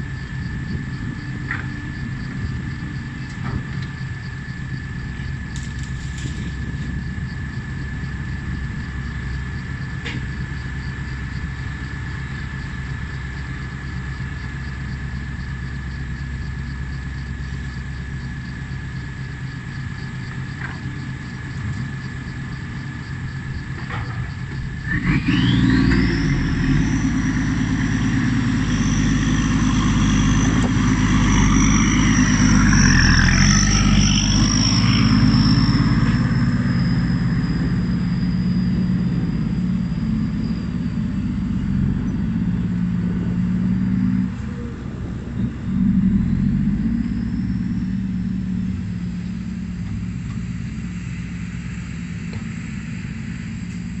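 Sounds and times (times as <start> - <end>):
diesel truck engine driving off: 0.0 - 54.0
high whine: 0.0 - 54.0.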